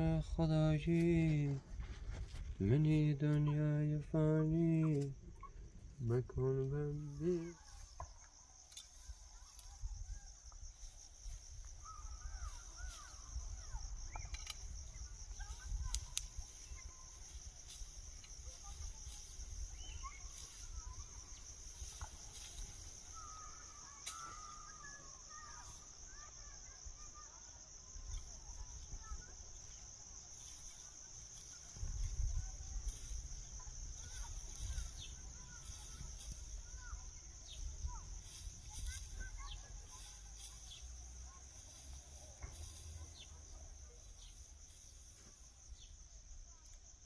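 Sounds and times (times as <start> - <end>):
insects chirring: 0.0 - 47.0
bird chirps: 4.5 - 46.0.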